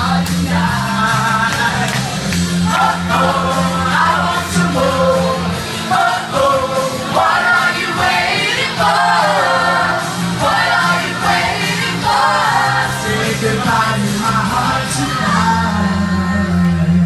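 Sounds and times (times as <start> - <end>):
group singing pop music: 0.0 - 16.9
low bass notes: 0.0 - 17.0.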